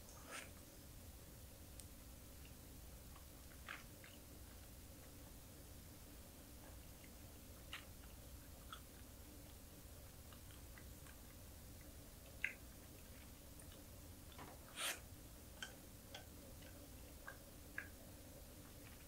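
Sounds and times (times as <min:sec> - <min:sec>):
chewing dried fish and peppers: 0:02.3 - 0:19.0.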